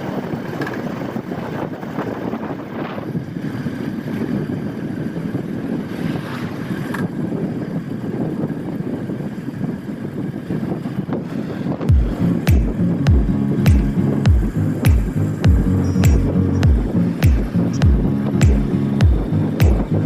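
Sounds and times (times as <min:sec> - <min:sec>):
moving vehicle road noise: 0:00.0 - 0:20.0
wind buffeting microphone: 0:00.0 - 0:20.0.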